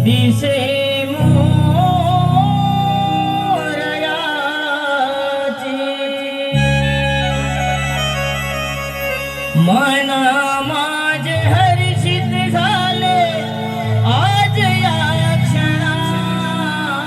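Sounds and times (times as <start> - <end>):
instrumental chords: 0.0 - 5.6, 6.5 - 17.0
man singing: 0.0 - 8.0, 9.5 - 17.0.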